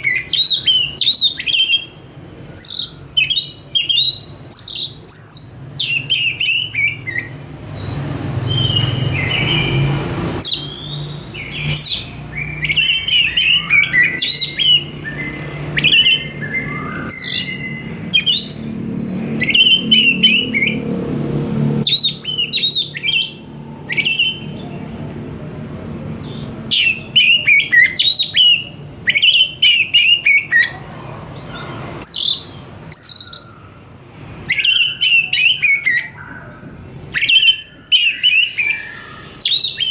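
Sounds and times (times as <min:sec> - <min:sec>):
bird singing whistled phrases: 0:00.0 - 0:20.8, 0:21.8 - 0:24.8, 0:26.2 - 0:30.8, 0:31.4 - 0:33.8, 0:34.4 - 0:39.9.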